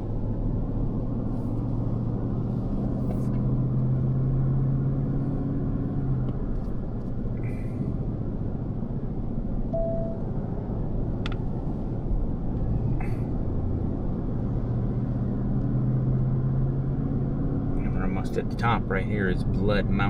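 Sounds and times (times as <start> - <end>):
car engine from inside cabin: 0.0 - 20.0
road rumble: 0.0 - 20.0.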